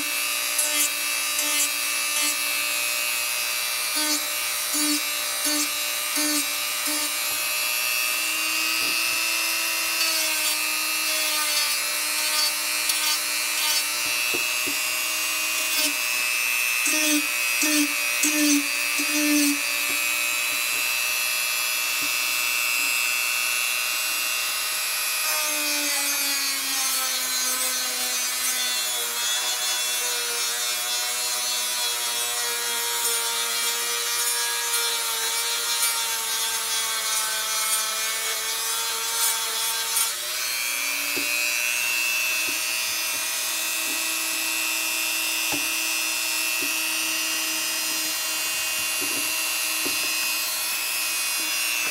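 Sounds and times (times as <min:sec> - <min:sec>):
rotary tool sanding wood: 0:00.0 - 0:51.9.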